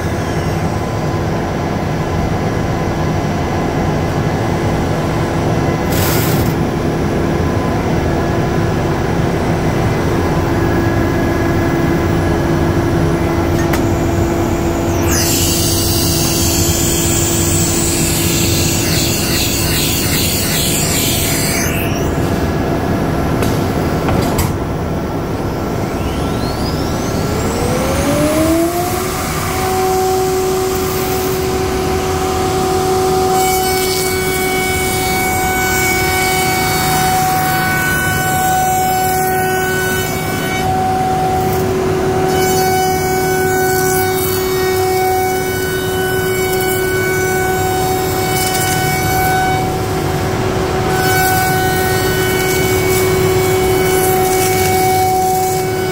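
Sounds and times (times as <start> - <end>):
router spindle whine: 0.0 - 55.9.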